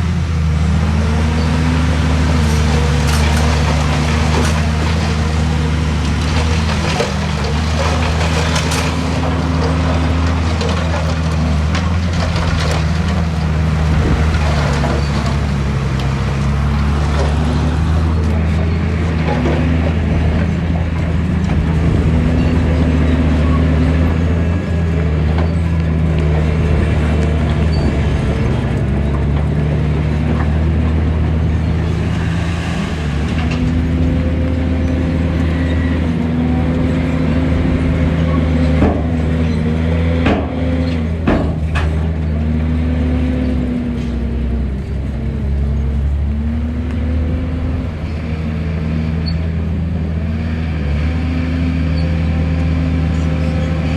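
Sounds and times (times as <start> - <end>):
diesel engine of heavy machinery: 0.0 - 53.9.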